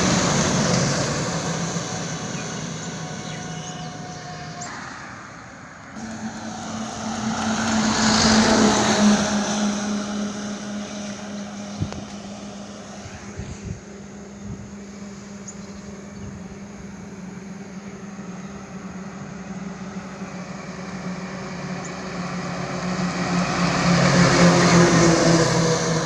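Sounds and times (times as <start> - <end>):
trucks passing by: 0.0 - 26.0.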